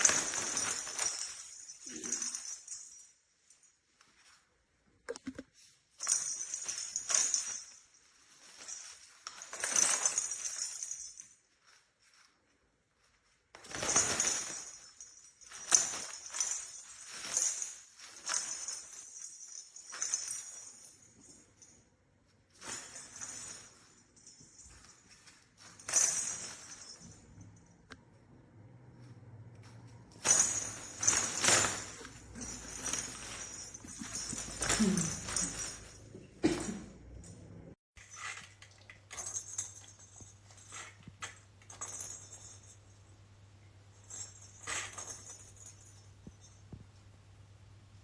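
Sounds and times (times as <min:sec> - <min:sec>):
small bell jingling: 0:00.0 - 0:04.4, 0:05.6 - 0:12.3, 0:13.0 - 0:27.9, 0:29.1 - 0:36.2, 0:37.2 - 0:47.6.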